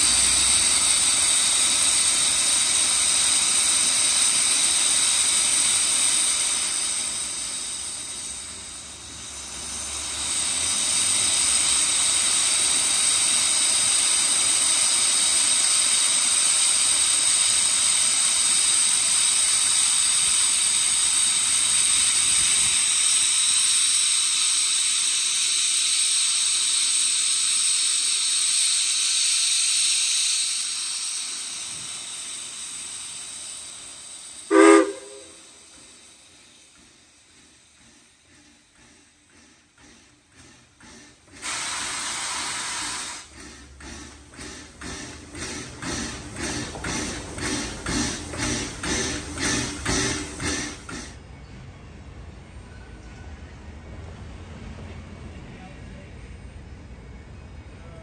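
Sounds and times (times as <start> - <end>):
steam hissing: 0.0 - 51.3.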